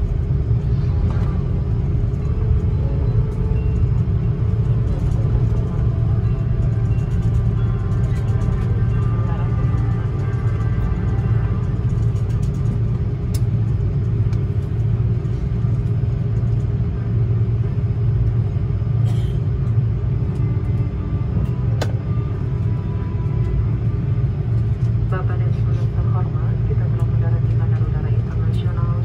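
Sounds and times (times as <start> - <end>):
aircraft taxiing rumble: 0.0 - 29.0.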